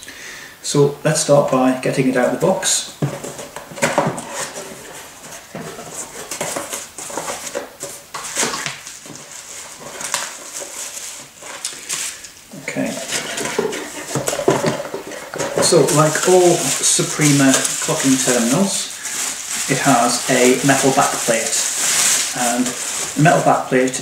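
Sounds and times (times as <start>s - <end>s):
bubble wrap crinkling: 1.9s - 24.0s
cardboard scraping and rustling: 3.0s - 24.0s.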